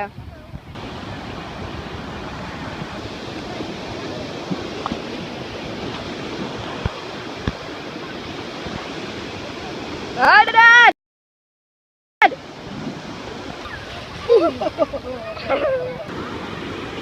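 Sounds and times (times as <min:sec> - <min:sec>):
ocean surf rushing: 0:00.0 - 0:10.9, 0:12.2 - 0:17.0.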